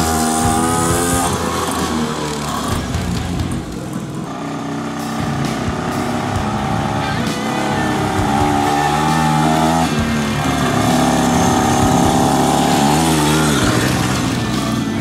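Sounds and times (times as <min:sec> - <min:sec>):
small motorbike engine revving: 0:00.0 - 0:15.0.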